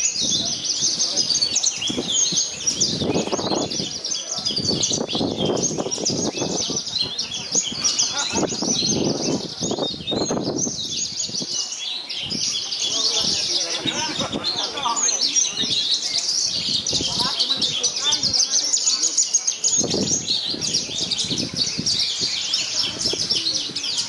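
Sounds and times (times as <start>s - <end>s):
people talking: 0.0s - 10.6s, 11.3s - 24.0s
birds chirping and trilling: 0.0s - 24.0s.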